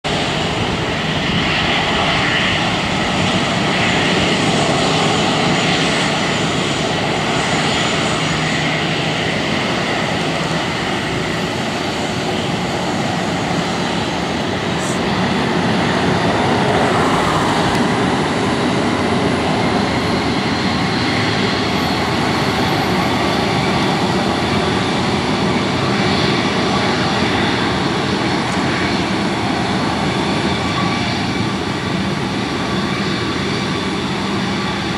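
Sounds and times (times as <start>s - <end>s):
jet engines taxiing: 0.0s - 34.9s.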